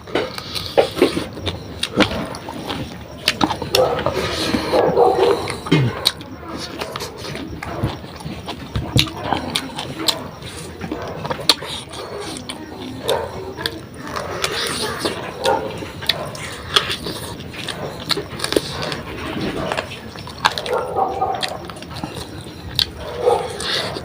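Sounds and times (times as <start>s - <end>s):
person chewing: 0.0s - 24.0s
mouth clicks and smacks: 0.1s - 24.0s.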